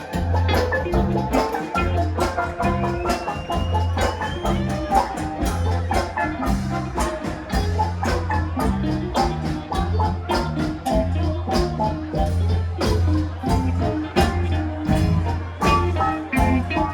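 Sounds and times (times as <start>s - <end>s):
bass line: 0.0s - 16.9s
drums beating: 0.0s - 16.9s
live rock band playing: 0.0s - 16.9s
mallet-like pitched notes: 0.0s - 16.9s.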